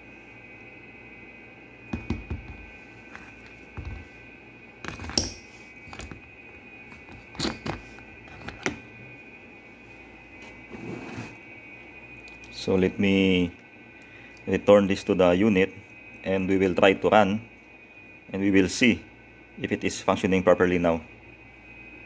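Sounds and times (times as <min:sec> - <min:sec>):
steady high tone: 0:00.0 - 0:22.0.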